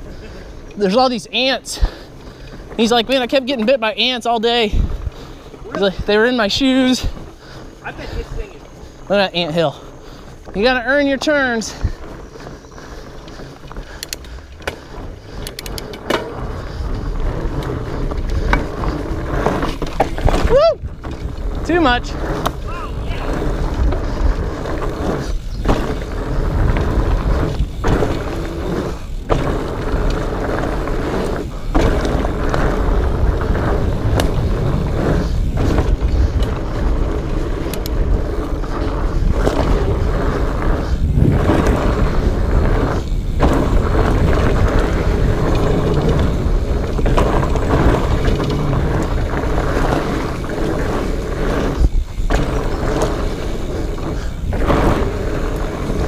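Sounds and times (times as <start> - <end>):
bike rattling: 0.0 - 56.0
bike tyres rolling on rocks: 0.0 - 56.0
wind on microphone: 3.9 - 9.1, 11.7 - 56.0.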